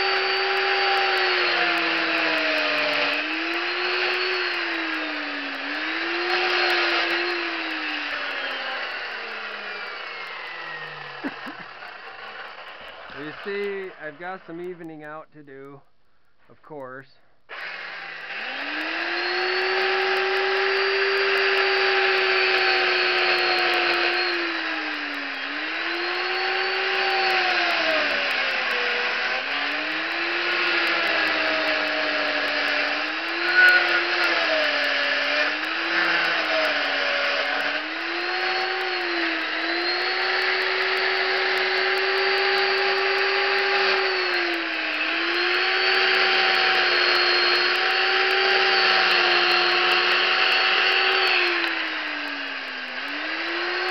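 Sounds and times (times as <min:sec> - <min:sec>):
chainsaw cutting wood: 0:00.0 - 0:15.8, 0:17.5 - 0:53.9.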